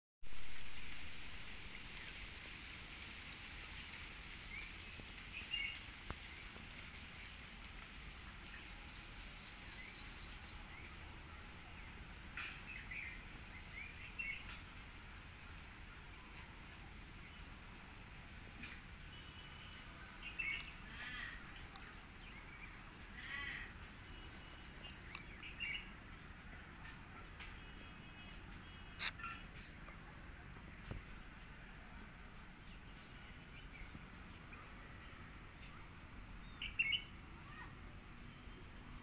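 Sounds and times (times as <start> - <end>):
faint outdoor background noise: 0.2 - 39.0
small birds chirping: 4.3 - 39.0.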